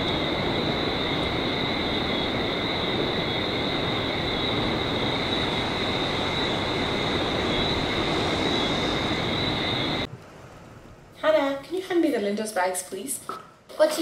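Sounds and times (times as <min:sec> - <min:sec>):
ocean surf: 0:00.0 - 0:11.3
wind: 0:00.0 - 0:14.0.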